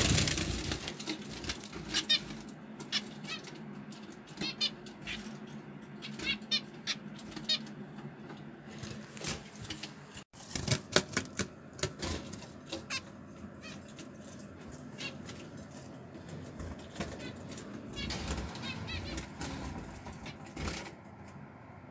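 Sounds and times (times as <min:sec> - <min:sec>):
small birds chirping: 0:00.0 - 0:09.4, 0:12.3 - 0:20.8.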